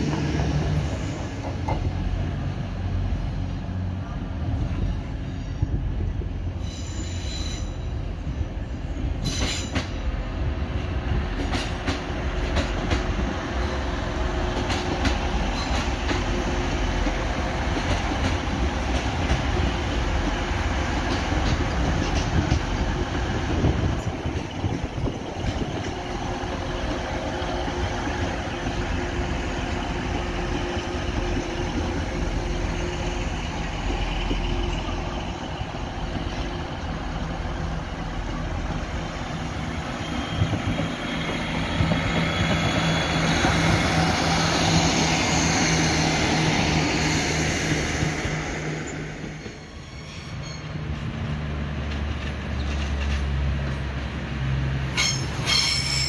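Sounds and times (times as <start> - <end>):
train engine humming: 0.0 - 56.0
train rushing past: 0.0 - 56.0.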